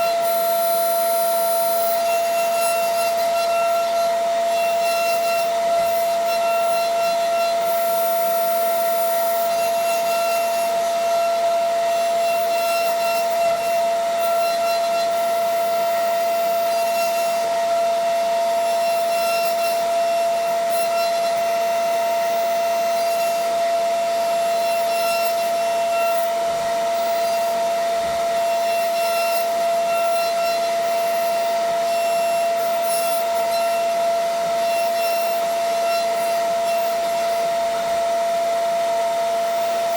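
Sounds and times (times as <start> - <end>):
milling machine high whine: 0.0 - 39.9.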